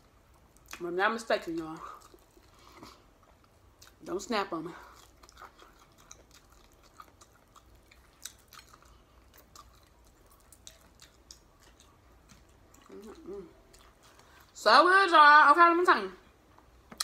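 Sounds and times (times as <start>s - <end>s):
chewing fried chicken: 0.0s - 14.6s.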